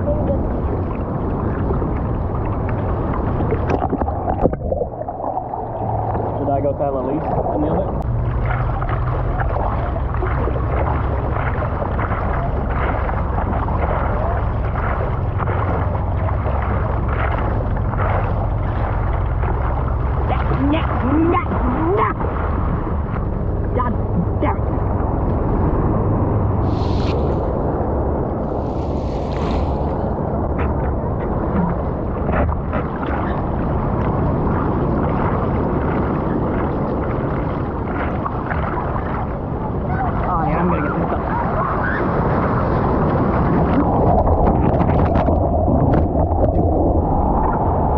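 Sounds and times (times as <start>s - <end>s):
heavy low rumble: 0.0s - 47.9s
ocean surf: 0.0s - 47.9s
water rushing: 0.0s - 47.9s
wind buffeting microphone: 0.0s - 47.9s.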